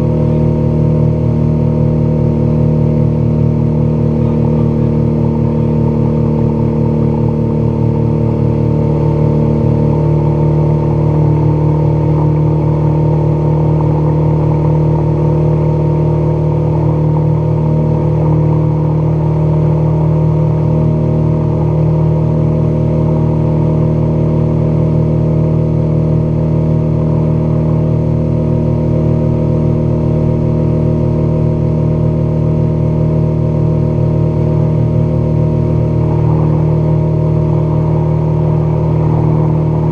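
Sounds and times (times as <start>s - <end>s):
outboard motor drone: 0.0s - 39.9s.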